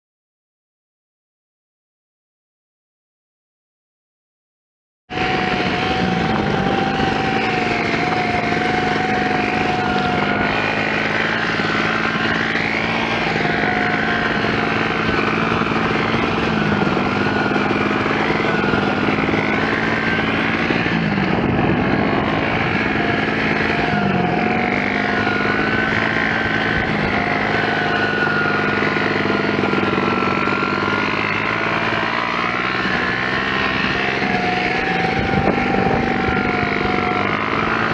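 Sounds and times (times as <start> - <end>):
dirt bike engine running: 5.1 - 37.9.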